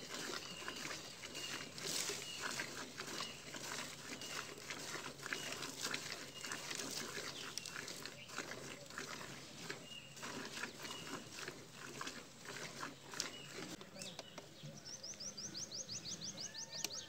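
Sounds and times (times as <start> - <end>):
milk squirting into steel bucket: 0.0 - 13.8.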